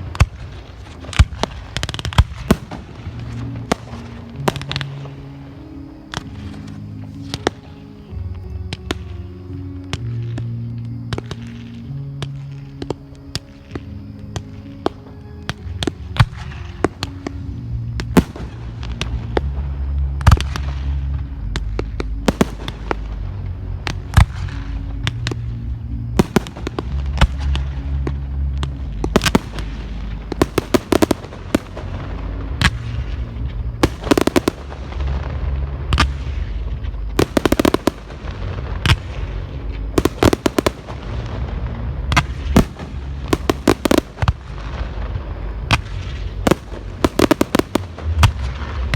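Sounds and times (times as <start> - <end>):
fireworks bangs and crackles: 0.0 - 48.9
music with low bass notes: 0.0 - 48.9.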